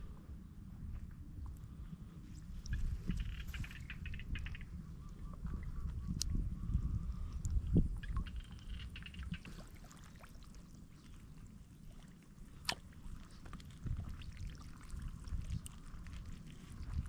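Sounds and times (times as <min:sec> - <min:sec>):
water sloshing and trickling: 0:00.8 - 0:06.4, 0:07.2 - 0:17.0.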